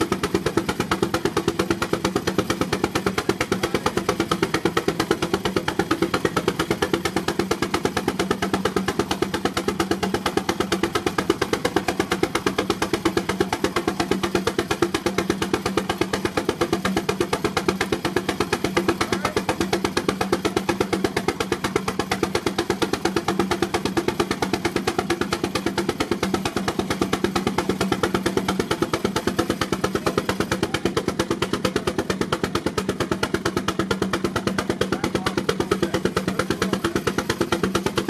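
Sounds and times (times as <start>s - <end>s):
steam engine exhaust beating: 0.0s - 38.0s.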